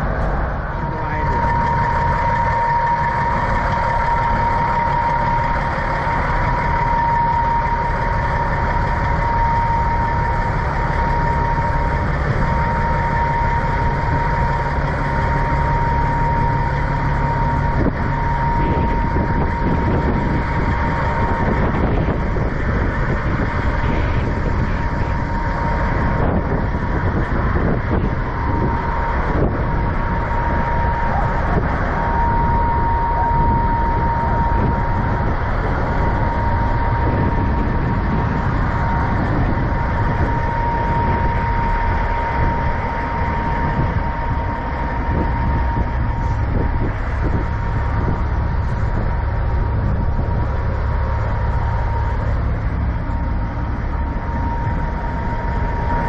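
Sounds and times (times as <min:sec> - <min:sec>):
high-pitched whine: 0:00.0 - 0:56.0
truck diesel engine idling: 0:00.0 - 0:56.0.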